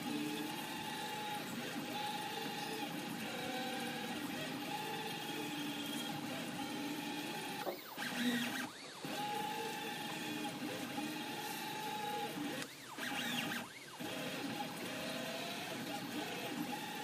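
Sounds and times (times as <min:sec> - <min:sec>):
printer motor whine: 0:00.0 - 0:17.0.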